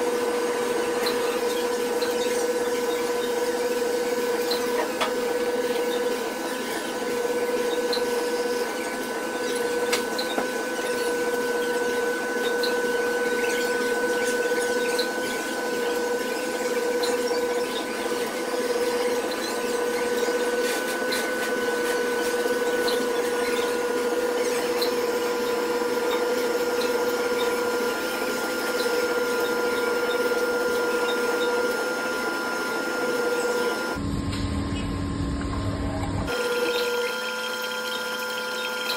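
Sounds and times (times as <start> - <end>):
small electric motor humming: 0.0 - 38.9.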